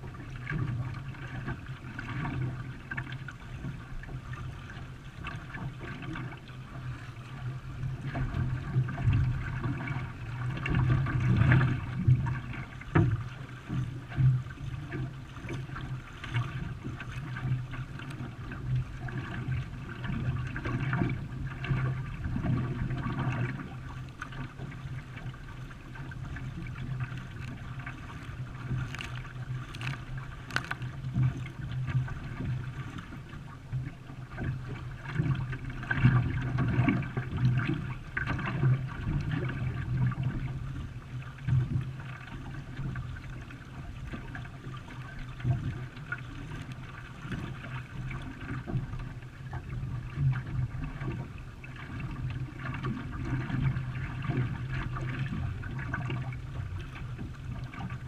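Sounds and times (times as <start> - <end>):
paddle strokes: 0.0 - 58.0
water splashing along hull: 0.0 - 58.0.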